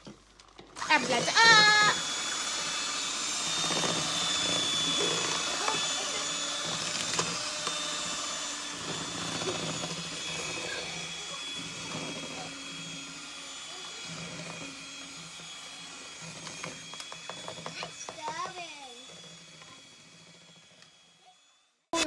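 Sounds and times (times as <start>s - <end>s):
electric hand mixer whisking batter: 0.0s - 22.0s.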